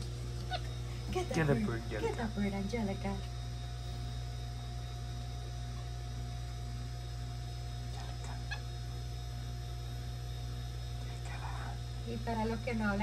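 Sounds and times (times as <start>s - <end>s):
faint steady whine: 0.0s - 13.0s
low electrical hum: 0.0s - 13.0s.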